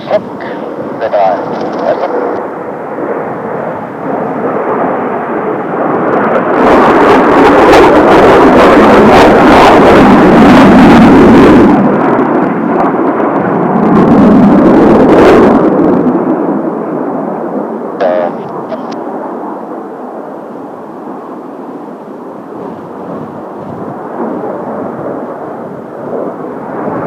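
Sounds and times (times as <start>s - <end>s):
jet aircraft roaring overhead: 0.0s - 27.0s.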